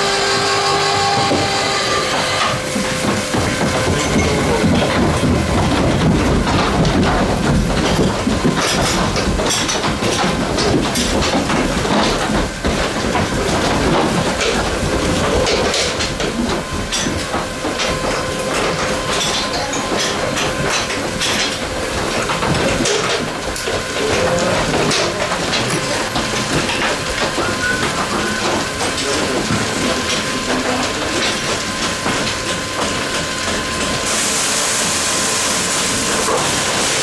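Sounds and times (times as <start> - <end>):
metal rattling and clattering: 0.4 - 34.1.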